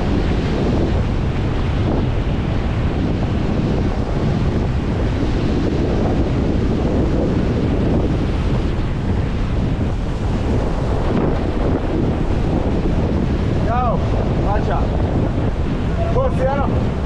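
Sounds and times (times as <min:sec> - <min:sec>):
foam washing over sand: 0:00.0 - 0:17.0
surf breaking: 0:00.0 - 0:17.0
wind buffeting microphone: 0:00.0 - 0:17.0.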